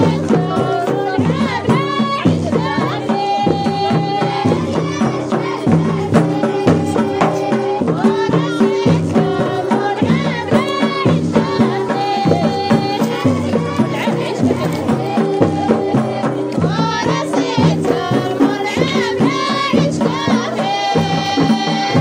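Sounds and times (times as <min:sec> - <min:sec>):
group singing: 0:00.0 - 0:22.0
steady drum beat: 0:00.0 - 0:22.0.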